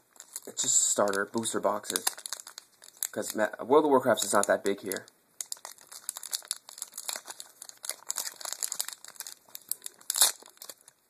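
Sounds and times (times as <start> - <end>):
foil wrapper crinkling: 0.1 - 11.0.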